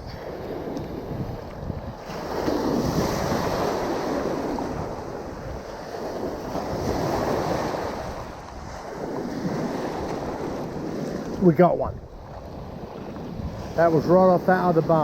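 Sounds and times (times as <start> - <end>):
surf breaking: 0.0 - 15.0
wind on microphone: 0.0 - 15.0.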